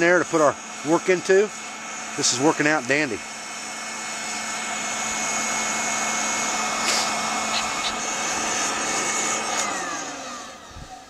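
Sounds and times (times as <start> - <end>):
electric blower whining: 0.0 - 11.0.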